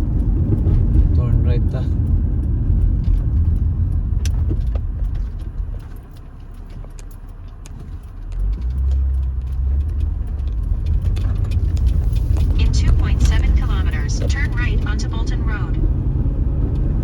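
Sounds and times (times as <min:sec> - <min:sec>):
light ticks and clicks: 0:00.0 - 0:15.2
car road rumble: 0:00.0 - 0:17.0.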